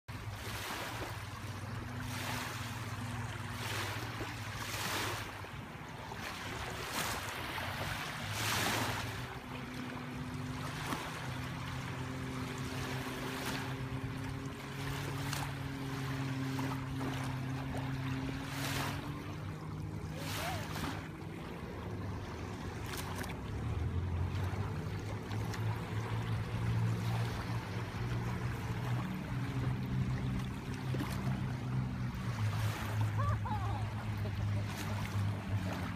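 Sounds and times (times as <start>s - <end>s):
distant motorboat engine droning: 0.1s - 35.9s
small waves washing at shore: 0.1s - 35.9s.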